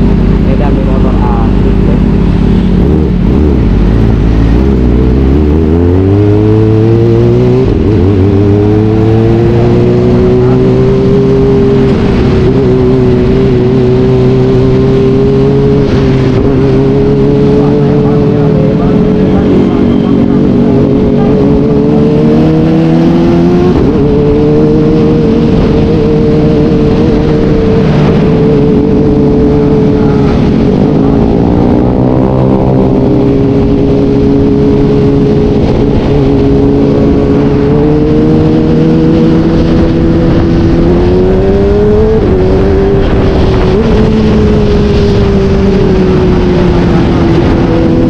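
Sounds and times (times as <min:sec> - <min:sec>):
motorcycle engine revving: 0:00.0 - 0:48.0
passing vehicle engine: 0:00.0 - 0:48.0
wind rush: 0:00.0 - 0:48.0.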